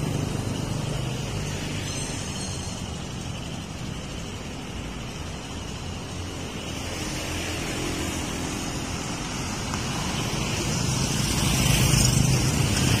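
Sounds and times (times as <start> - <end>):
motorcycle engines approaching: 0.0 - 13.0
road traffic: 0.0 - 13.0.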